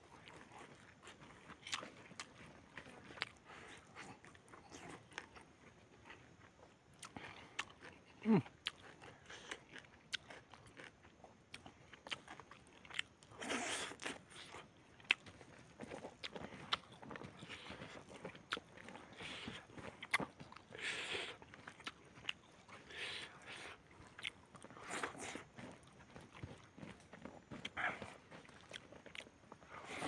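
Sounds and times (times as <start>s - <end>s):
man chewing food: 0.0s - 30.0s.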